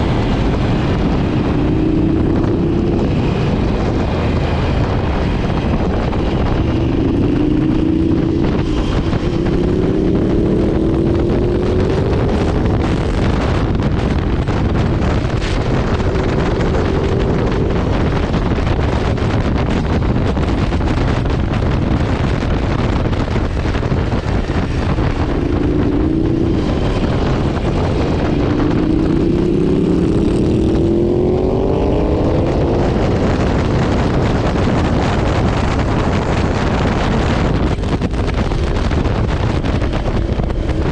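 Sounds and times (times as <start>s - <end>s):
motorcycle engine accelerating: 0.0s - 40.9s
wind rush on microphone: 0.0s - 40.9s.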